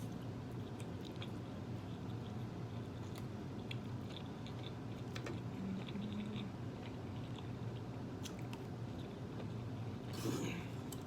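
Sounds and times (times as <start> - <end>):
person chewing food: 0.0 - 11.0
steady low hum: 0.0 - 11.0.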